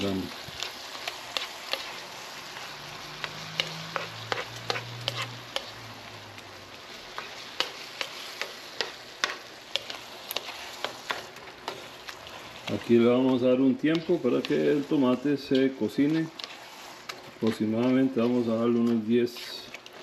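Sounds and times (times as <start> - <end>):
tomatoes sizzling in a skillet: 0.0 - 20.0
spoon scraping a pan: 0.5 - 5.8, 7.1 - 18.4.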